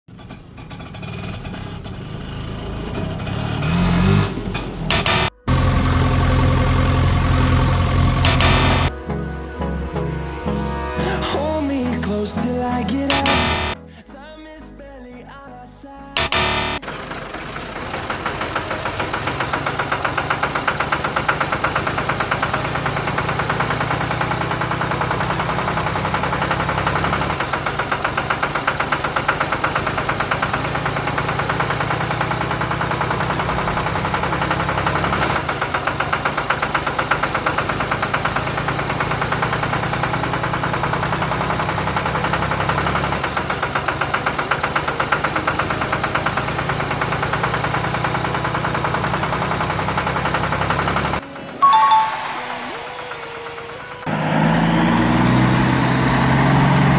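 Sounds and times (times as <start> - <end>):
tractor diesel engine chugging: 0.1 - 9.0, 11.0 - 13.8, 16.2 - 56.9.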